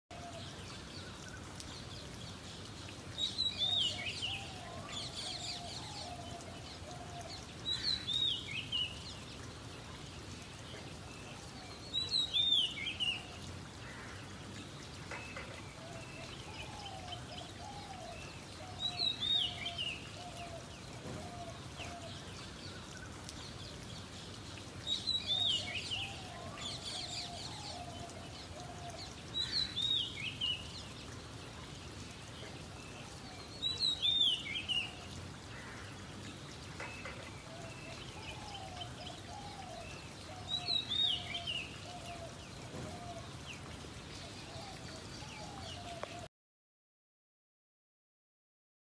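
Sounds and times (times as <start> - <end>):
rain hiss: 0.1 - 46.3.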